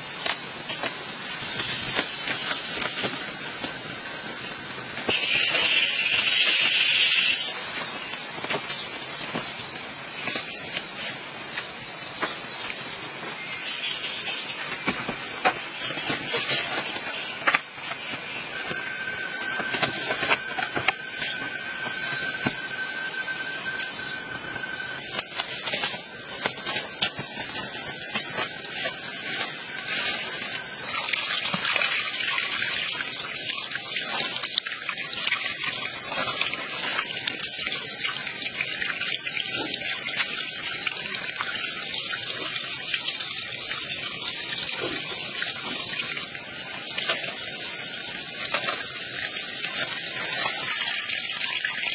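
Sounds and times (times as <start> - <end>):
high insect drone: 0.0 - 51.9
palm leaves crackling and rustling: 0.0 - 51.9.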